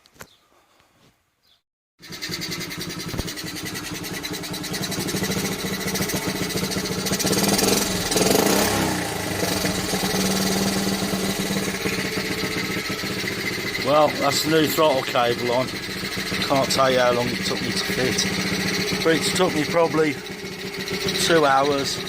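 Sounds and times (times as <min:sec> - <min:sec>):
small motorcycle engine idling: 0:02.0 - 0:22.0.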